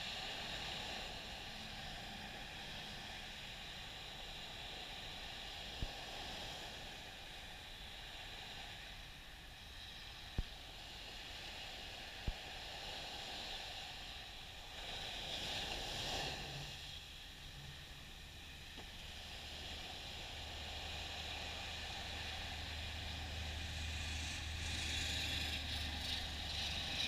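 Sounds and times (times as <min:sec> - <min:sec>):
gentle waves washing on sand: 0:00.0 - 0:27.0.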